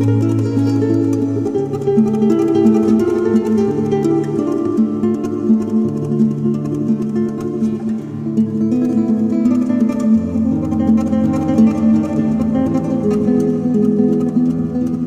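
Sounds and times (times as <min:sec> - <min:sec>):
flamenco guitar music: 0:00.0 - 0:15.0.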